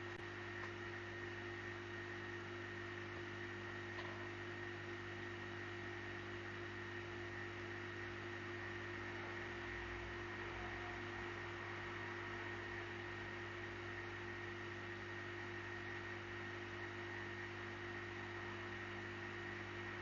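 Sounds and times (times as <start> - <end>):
electrical hum with high whine: 0.0 - 20.0.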